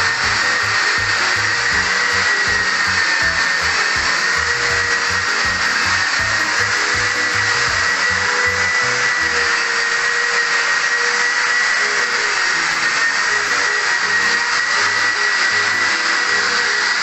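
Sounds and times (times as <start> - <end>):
sander motor whine: 0.0 - 17.0.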